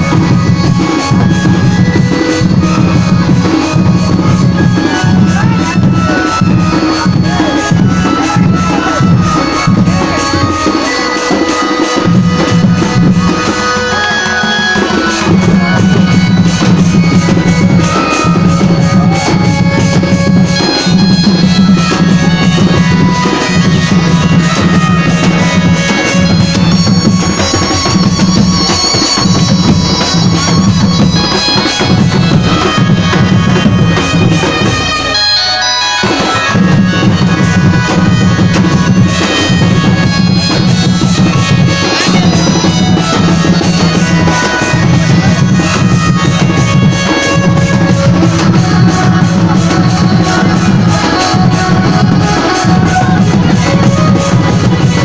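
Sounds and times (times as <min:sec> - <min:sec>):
loud dance music with drum beat: 0:00.0 - 0:35.2, 0:36.0 - 0:55.0.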